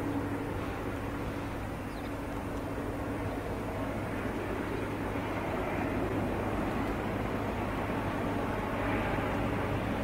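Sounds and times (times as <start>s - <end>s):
airliner jet engines droning: 0.0s - 10.0s.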